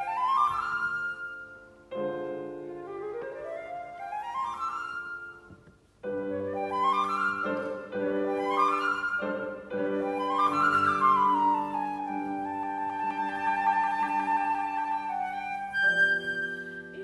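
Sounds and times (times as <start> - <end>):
flute playing quick runs: 0.0 - 1.6, 2.8 - 17.0
piano chords: 0.0 - 17.0.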